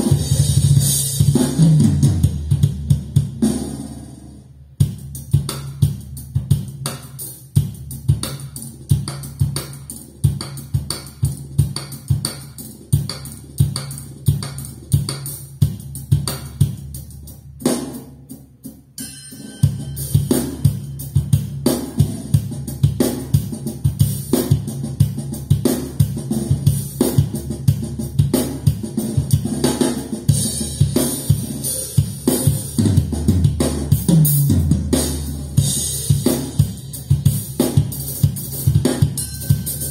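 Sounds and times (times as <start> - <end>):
cymbals: 0.0 - 2.6, 5.1 - 39.9
drum kit through loudspeakers: 0.0 - 39.9.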